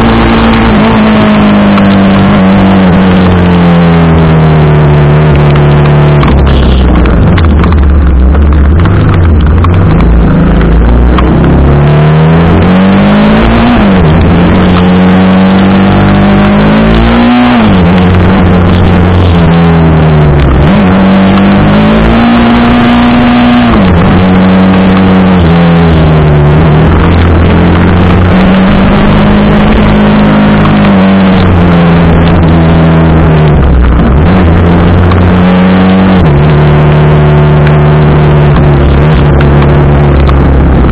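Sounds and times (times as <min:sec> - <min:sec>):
constant noise: 0:00.0 - 0:40.9
motorcycle engine revving: 0:00.0 - 0:40.9.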